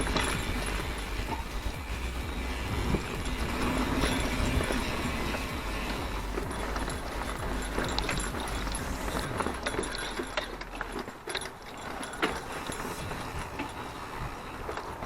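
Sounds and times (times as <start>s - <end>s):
bike chain rattling: 0.0s - 15.0s
bike tyres on dirt: 0.0s - 15.0s.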